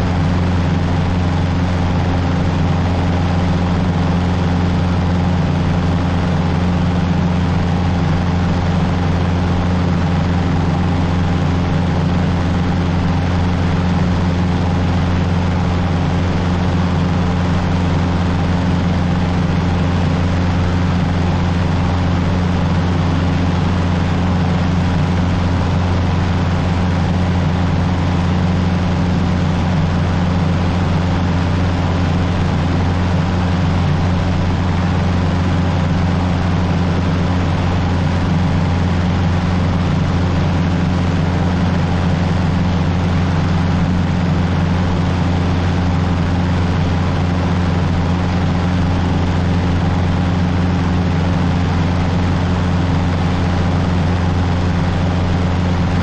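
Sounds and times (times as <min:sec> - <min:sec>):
small plane engine droning: 0:00.0 - 0:56.0.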